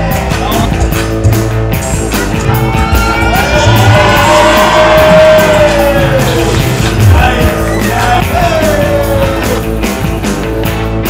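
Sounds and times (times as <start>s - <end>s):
hip-hop dance music: 0.0s - 11.0s.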